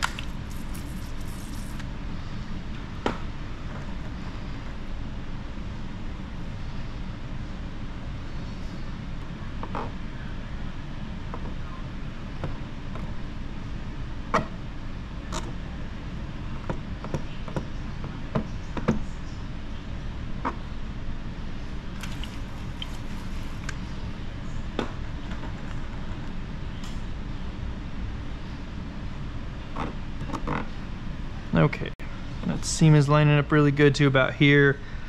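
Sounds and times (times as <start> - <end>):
low workshop rumble: 0.0 - 35.0.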